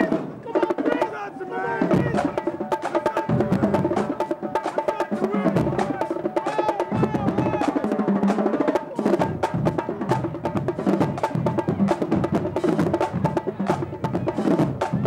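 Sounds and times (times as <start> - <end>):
marching drumline cadence: 0.0 - 15.0.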